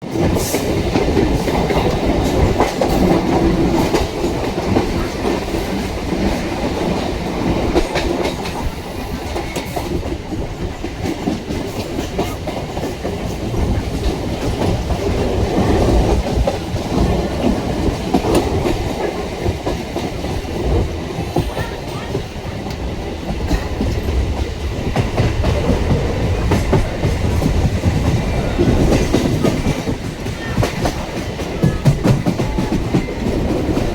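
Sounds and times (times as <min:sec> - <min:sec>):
train rumbling on track: 0:00.0 - 0:33.9.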